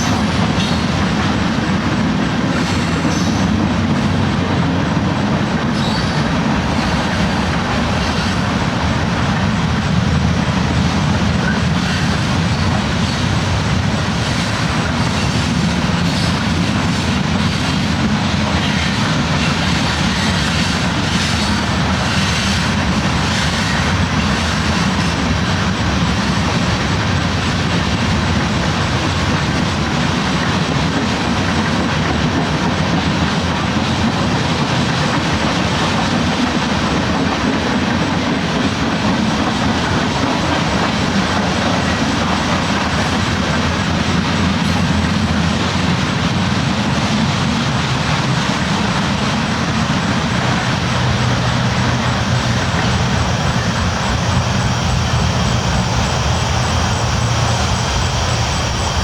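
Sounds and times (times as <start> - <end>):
train wheels on rails: 0.0 - 59.0.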